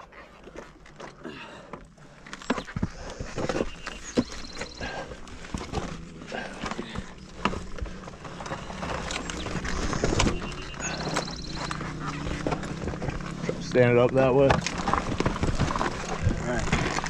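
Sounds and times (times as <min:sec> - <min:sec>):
dirt bike knocks and clatter: 0:02.4 - 0:17.0.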